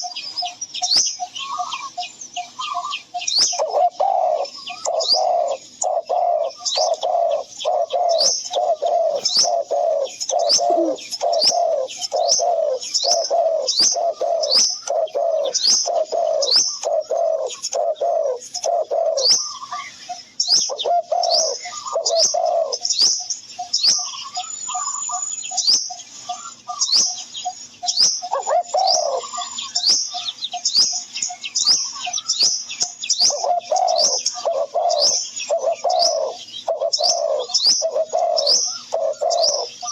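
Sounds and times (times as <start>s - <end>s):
high bird chirps: 0.0s - 39.9s
lower repeated bird calls: 0.0s - 39.9s.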